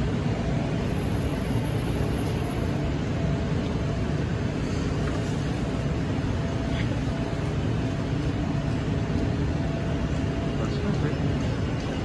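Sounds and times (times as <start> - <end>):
faint whine: 0.0 - 12.0
train hum and rumble: 0.0 - 12.0.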